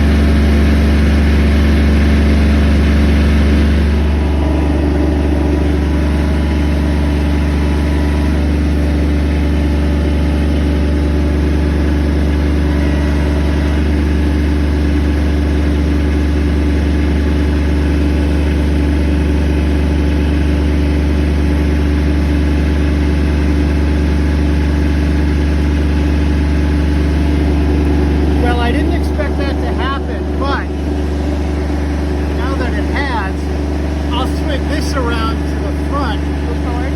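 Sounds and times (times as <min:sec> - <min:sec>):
heavy machine engine humming: 0:00.0 - 0:36.9.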